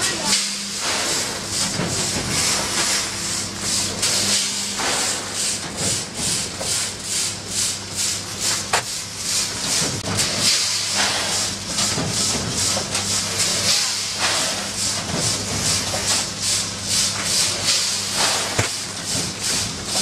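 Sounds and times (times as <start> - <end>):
machine low hum: 0.0 - 20.0
packaging machine pulsing hiss: 0.0 - 20.0.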